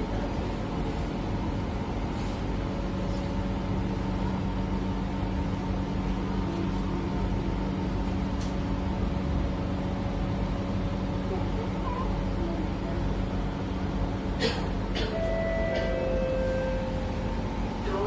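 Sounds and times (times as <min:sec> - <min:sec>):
continuous hum: 0:00.0 - 0:18.0
train rumbling: 0:00.0 - 0:18.0.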